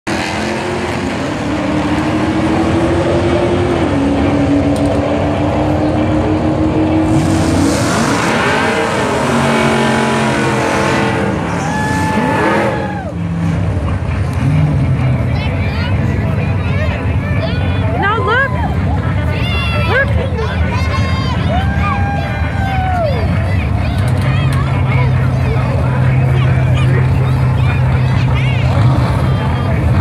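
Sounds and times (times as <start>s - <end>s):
drag car engines revving: 0.0s - 30.0s.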